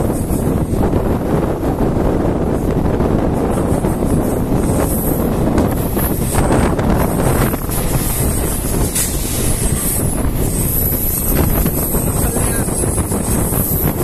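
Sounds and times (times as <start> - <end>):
passing freight train: 0.0 - 14.0
train wheels clattering on rails: 0.0 - 14.0
wind rushing on microphone: 0.0 - 14.0.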